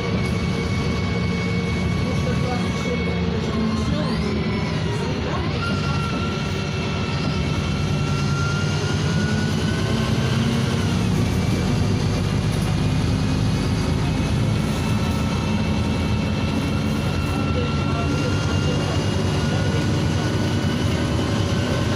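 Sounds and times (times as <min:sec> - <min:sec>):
bus diesel engine running: 0:00.0 - 0:21.9.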